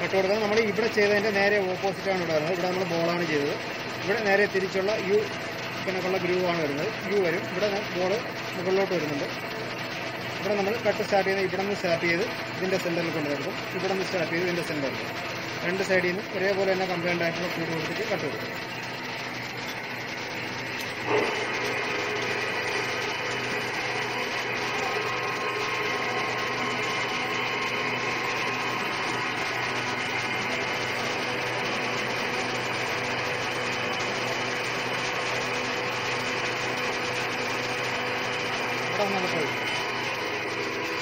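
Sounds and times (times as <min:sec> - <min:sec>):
lathe running with gear whine: 0:00.0 - 0:41.0.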